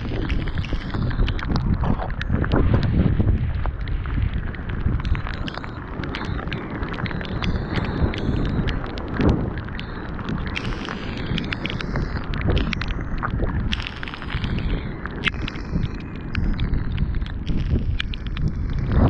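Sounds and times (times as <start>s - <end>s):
raindrops ticking on camera: 0.0s - 19.0s
wind buffeting microphone: 0.0s - 19.0s.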